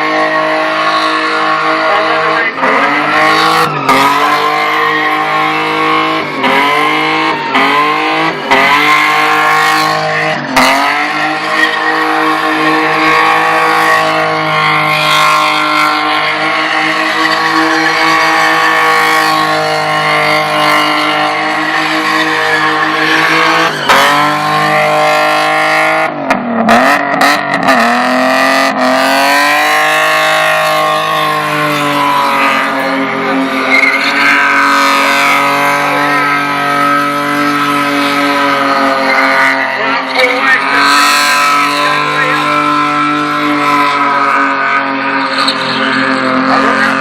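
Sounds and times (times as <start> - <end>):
car engine revving high: 0.0 - 47.0
tyres spinning and squealing: 0.0 - 47.0.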